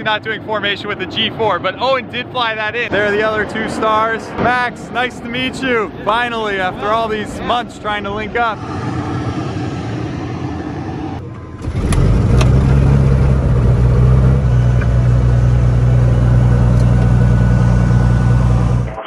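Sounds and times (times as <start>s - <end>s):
light aircraft piston engine: 0.0s - 18.9s
apron noise: 2.6s - 19.0s.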